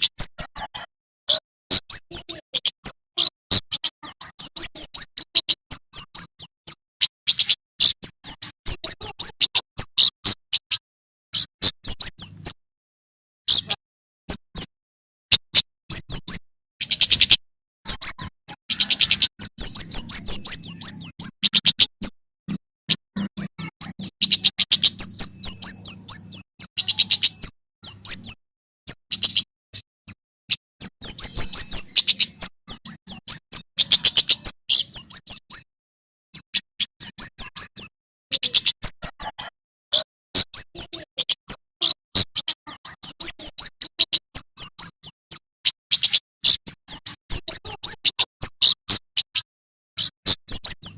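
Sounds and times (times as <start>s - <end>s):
bird chirping in bursts: 0.0s - 10.8s, 11.4s - 12.6s, 13.5s - 14.7s, 15.3s - 35.7s, 36.4s - 50.9s.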